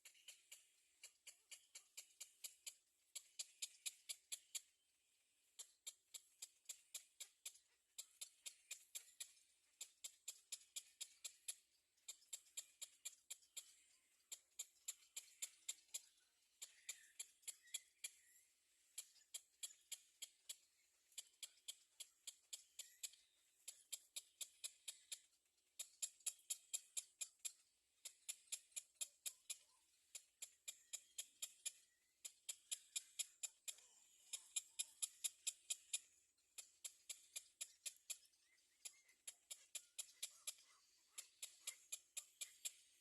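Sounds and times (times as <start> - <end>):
small birds chip calls: 0.0 - 43.0.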